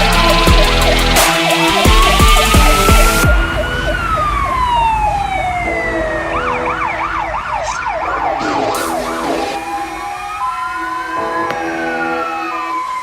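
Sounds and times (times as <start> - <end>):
fire engine siren wailing: 0.0 - 13.0
siren yelping: 0.0 - 13.0.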